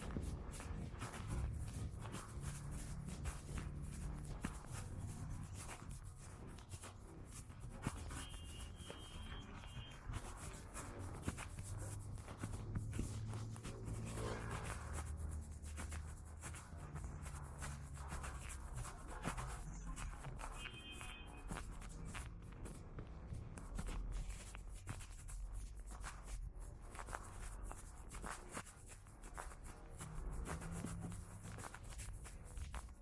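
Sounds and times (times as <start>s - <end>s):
rubbing noise on microphone: 0.0s - 33.0s.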